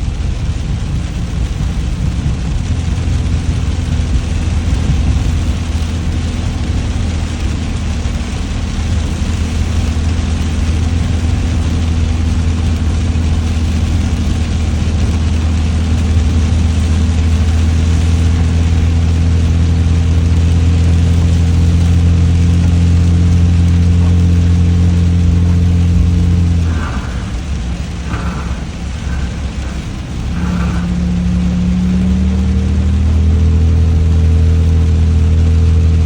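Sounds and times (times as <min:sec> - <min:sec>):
engine humming: 0:00.0 - 0:36.0
heavy rain hissing: 0:00.0 - 0:36.0.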